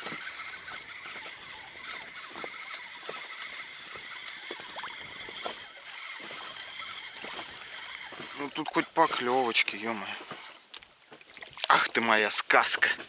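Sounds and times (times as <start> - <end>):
waves lapping against boat: 0.0 - 13.0.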